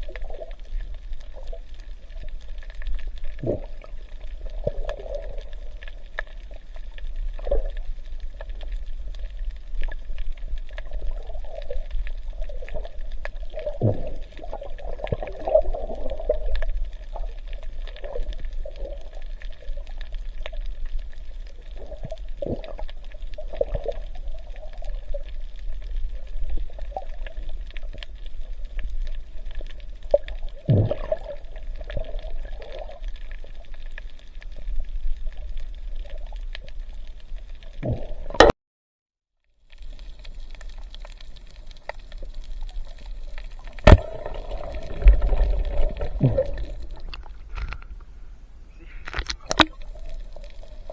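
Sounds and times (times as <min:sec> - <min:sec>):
muffled water sloshing and gurgling: 0:00.0 - 0:38.5, 0:39.7 - 0:50.9.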